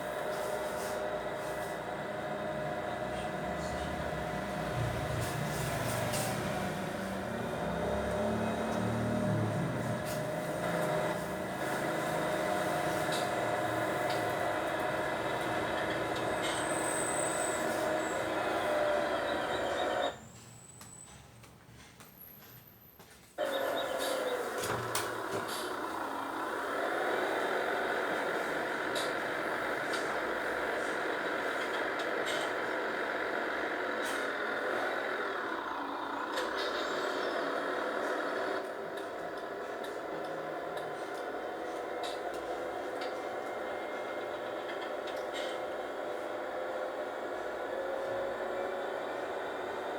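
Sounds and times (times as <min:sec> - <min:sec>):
machinery whining: 0:00.0 - 0:21.3, 0:23.4 - 0:49.9
heavy engine running: 0:00.0 - 0:21.4, 0:23.4 - 0:49.9.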